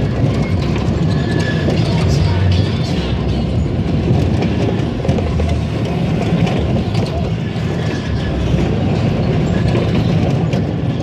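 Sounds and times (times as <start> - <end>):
amusement ride rumble: 0.0 - 11.0
wheels clattering on track: 0.0 - 11.0.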